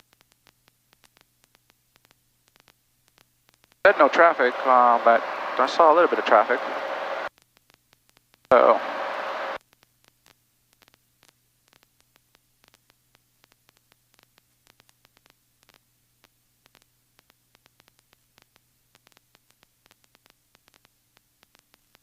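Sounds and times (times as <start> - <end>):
faint electrical hum: 0.0 - 22.0
faint static clicks: 0.0 - 22.0.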